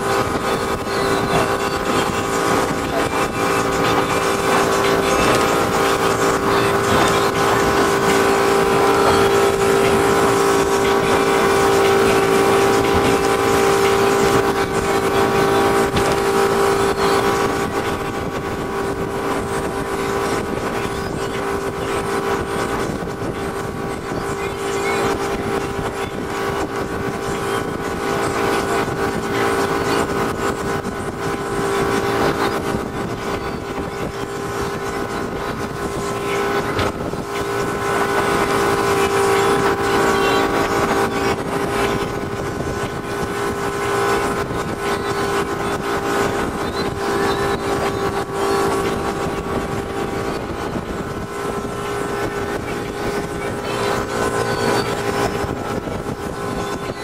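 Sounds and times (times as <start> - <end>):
motorboat engine droning: 0.0 - 57.0
rushing wind and water: 0.0 - 57.0.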